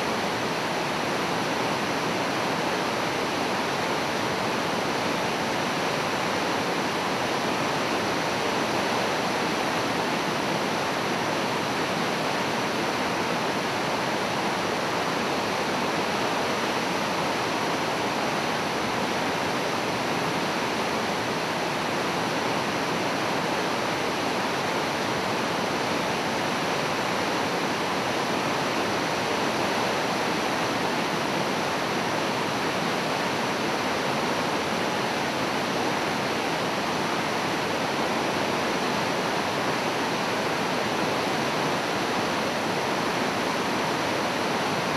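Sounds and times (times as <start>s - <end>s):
river rushing through rapids: 0.0s - 44.9s.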